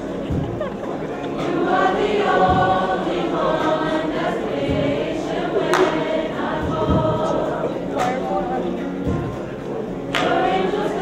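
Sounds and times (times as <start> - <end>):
choir singing long notes: 0.0 - 9.2, 10.1 - 11.0.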